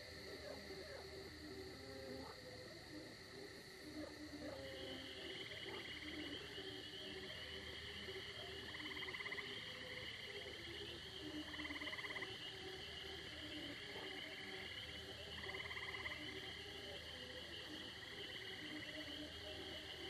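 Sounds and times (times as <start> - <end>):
distant frog chorus: 0.0 - 20.0
insects chirring: 0.0 - 20.0
frog pulsed trill: 0.3 - 20.0.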